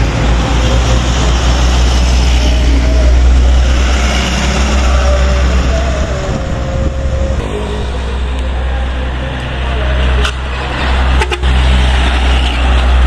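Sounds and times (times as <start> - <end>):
trucks driving past: 0.0 - 13.0.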